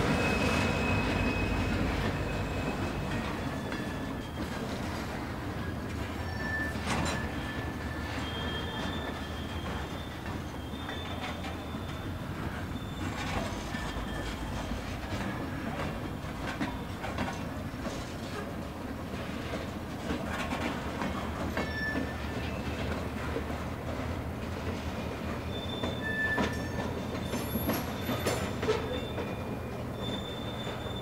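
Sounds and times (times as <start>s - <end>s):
wheel flange squeals: 0.0s - 18.5s, 20.6s - 23.3s, 24.7s - 31.0s
train wheels clacking over rail joints: 0.0s - 31.0s.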